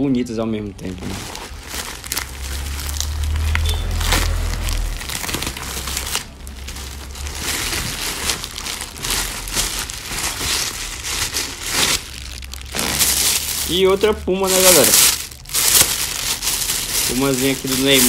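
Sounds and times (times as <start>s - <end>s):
plastic bags rustling: 0.8s - 18.0s.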